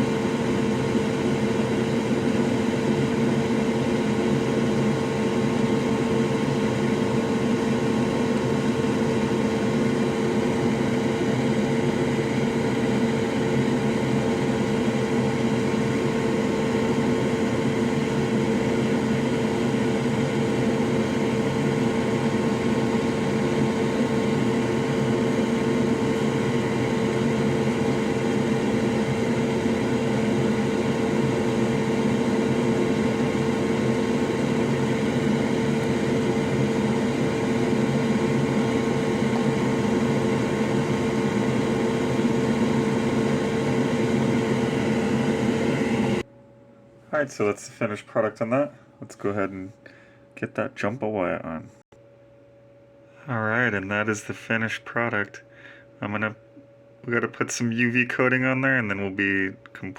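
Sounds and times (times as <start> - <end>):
extractor fan blowing hum: 0.0 - 59.9.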